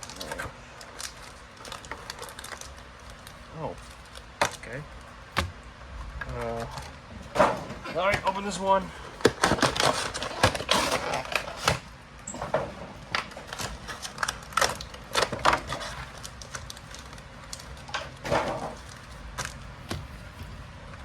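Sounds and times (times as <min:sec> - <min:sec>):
cardboard packaging crackling: 0:00.0 - 0:05.6, 0:06.3 - 0:20.8.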